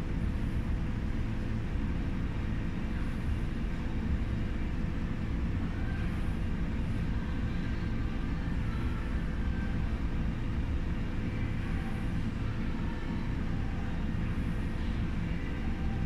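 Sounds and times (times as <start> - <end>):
low room noise rumble: 0.0 - 16.0.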